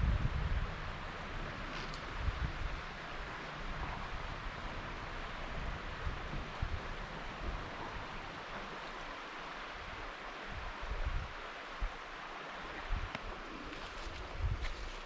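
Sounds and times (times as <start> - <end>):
wind buffeting microphone: 0.0 - 12.0, 12.7 - 15.0
river water flowing: 0.1 - 15.0.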